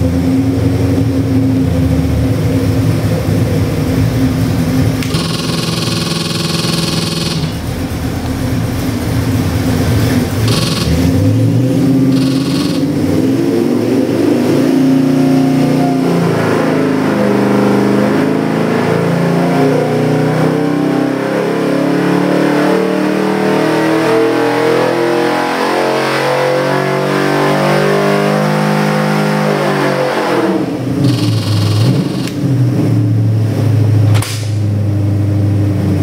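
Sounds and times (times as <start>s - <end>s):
engine revving under load: 0.0s - 36.0s.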